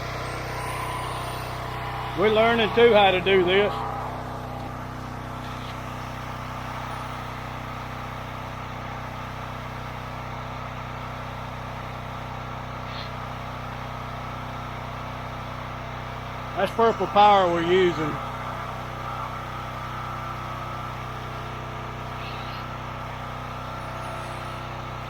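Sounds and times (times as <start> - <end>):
pressure washer engine running: 0.0 - 25.0.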